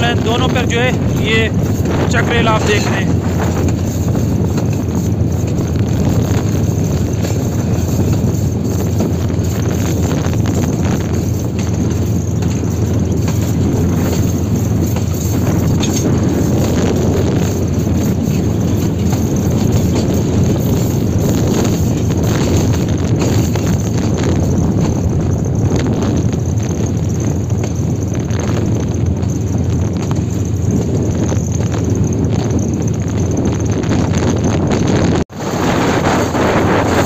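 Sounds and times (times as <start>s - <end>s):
diesel locomotive rumbling: 0.0s - 37.0s
wheels clicking on track: 0.0s - 37.0s.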